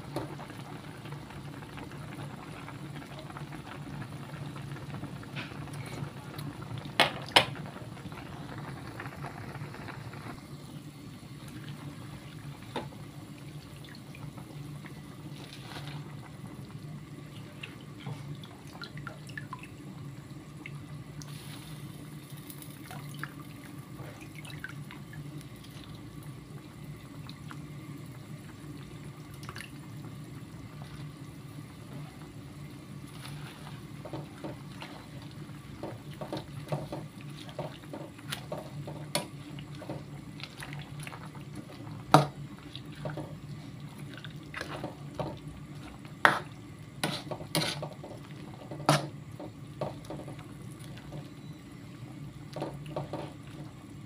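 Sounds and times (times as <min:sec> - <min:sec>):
low steady hum: 0:00.0 - 0:54.0
soup bubbling in metal pan: 0:00.0 - 0:54.0.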